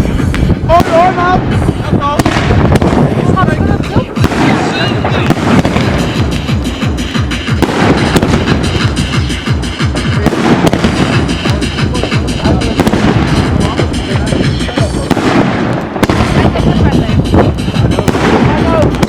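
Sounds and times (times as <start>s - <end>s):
fireworks crackling bangs: 0.0s - 19.0s
music: 0.0s - 19.0s.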